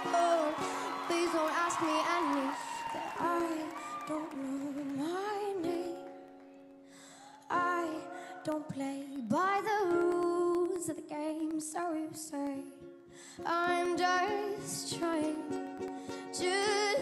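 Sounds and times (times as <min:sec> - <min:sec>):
ukulele strumming: 0:00.0 - 0:06.8, 0:07.6 - 0:17.0
girl singing: 0:00.0 - 0:17.0.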